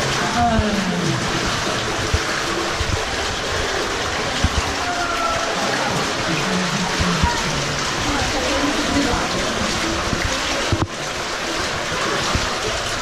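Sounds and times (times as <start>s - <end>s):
water rushing through tunnel: 0.0s - 13.0s.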